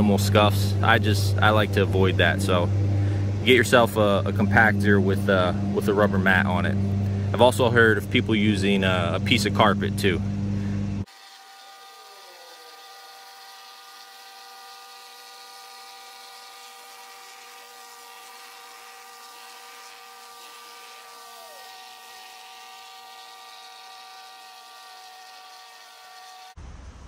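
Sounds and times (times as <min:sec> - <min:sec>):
plate compactor engine humming: 0:00.0 - 0:26.6.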